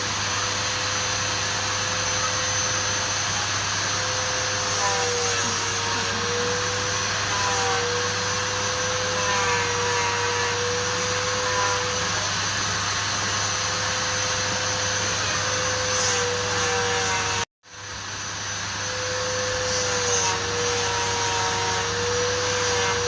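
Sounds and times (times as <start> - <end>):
wood lathe whining: 0.0 - 17.5, 18.5 - 23.0.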